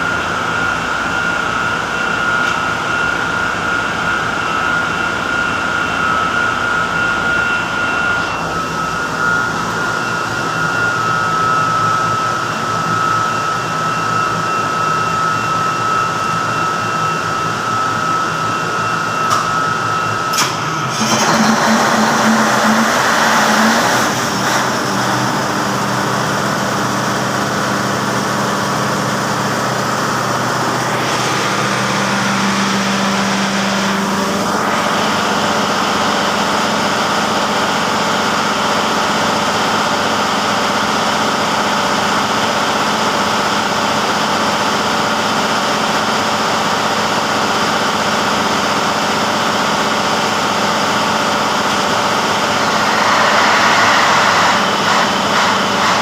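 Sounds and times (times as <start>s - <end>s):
diesel generator engine running: 0.0s - 56.0s.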